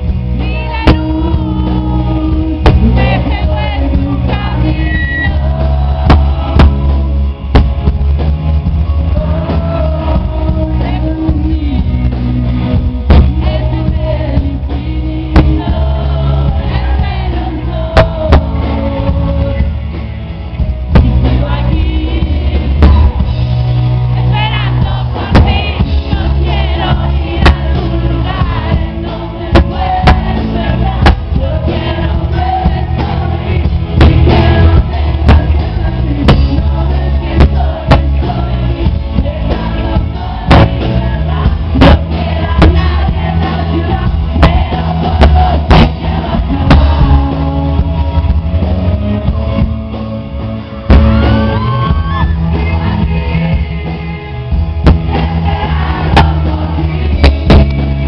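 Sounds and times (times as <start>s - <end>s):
drum and cymbal hits: 0.0s - 58.0s
person singing: 0.0s - 58.0s
rock band playing: 0.0s - 58.0s.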